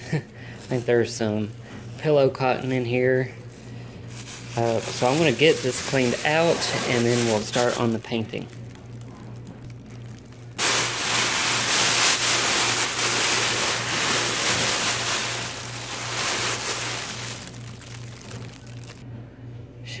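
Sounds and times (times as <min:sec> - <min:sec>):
foil and plastic crinkling: 0:00.1 - 0:19.0.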